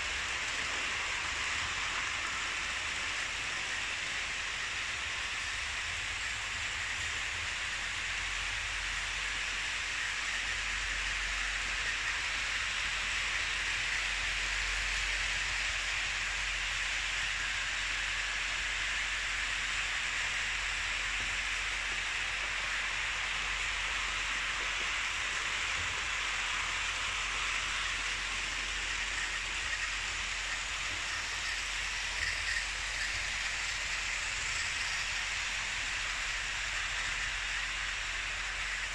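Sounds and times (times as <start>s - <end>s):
model train wheels rattling on track: 0.0s - 38.9s.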